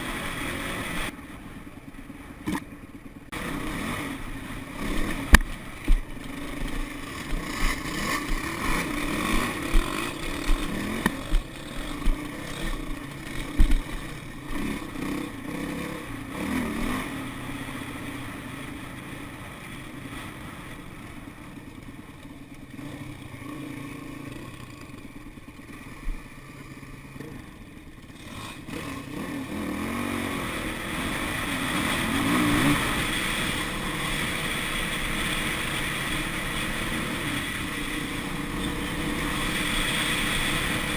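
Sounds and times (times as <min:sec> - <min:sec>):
dirt bike engine revving: 0:00.0 - 0:01.2, 0:02.4 - 0:21.4, 0:22.6 - 0:40.9.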